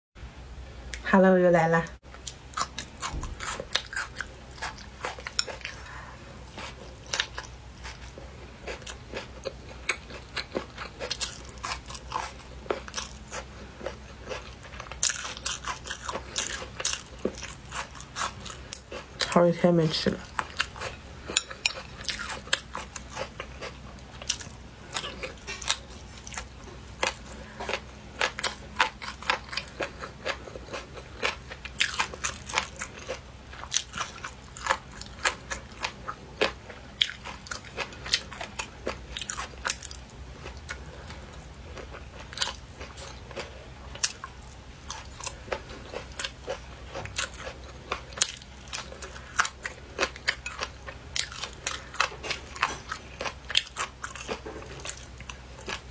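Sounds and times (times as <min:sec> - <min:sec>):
person chewing with crunches: 0:02.1 - 0:19.5, 0:20.1 - 0:55.9.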